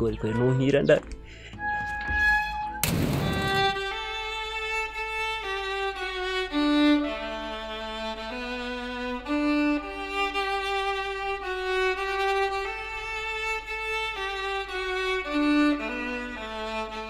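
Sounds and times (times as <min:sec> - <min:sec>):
slow violin melody: 0:00.0 - 0:17.0.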